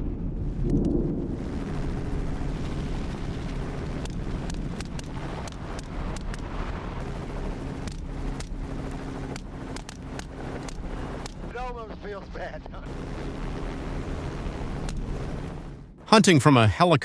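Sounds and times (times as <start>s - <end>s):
helicopter engine and rotor drone: 0.5s - 17.0s.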